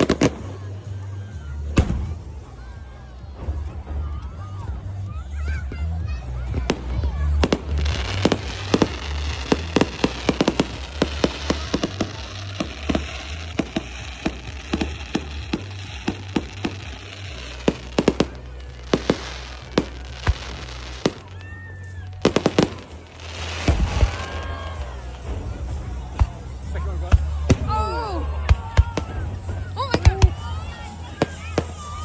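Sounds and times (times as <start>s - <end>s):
firecrackers cracking: 0.0s - 32.0s.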